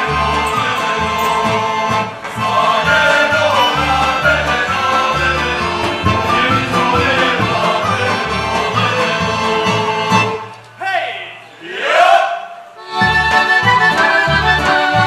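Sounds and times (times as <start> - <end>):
folk dance music ensemble: 0.0 - 10.8, 11.4 - 15.0.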